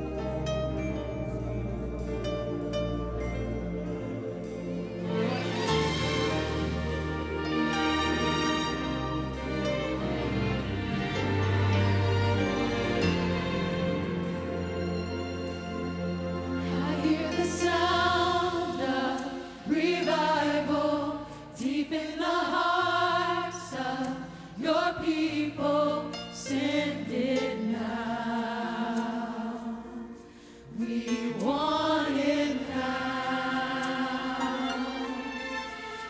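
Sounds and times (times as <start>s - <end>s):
choir singing slow song: 0.0s - 36.0s.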